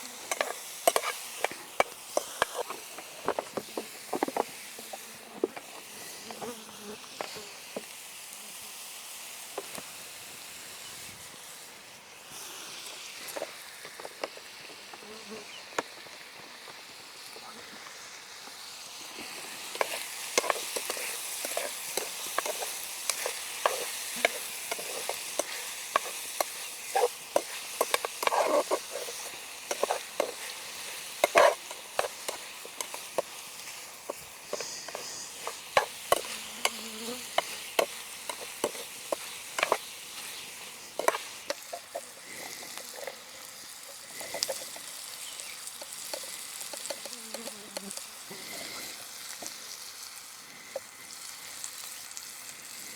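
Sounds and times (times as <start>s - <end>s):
food sizzling over fire: 0.0s - 52.9s.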